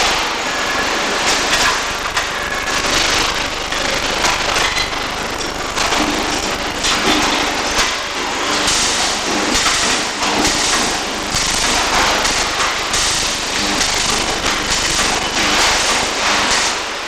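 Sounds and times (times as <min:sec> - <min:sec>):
welding arc crackling and sizzling: 0:00.0 - 0:17.0.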